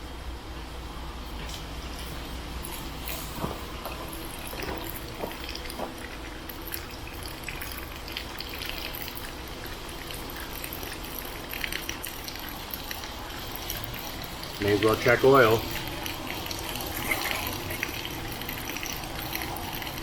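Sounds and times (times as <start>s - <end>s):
hose water running and splashing: 2.6s - 20.0s.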